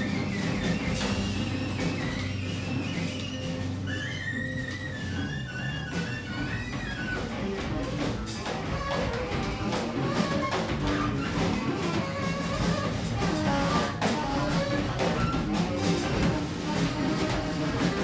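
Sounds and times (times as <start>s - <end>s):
double bass: 0.0s - 18.0s
drum kit: 0.0s - 18.0s
saxophone: 0.0s - 18.0s.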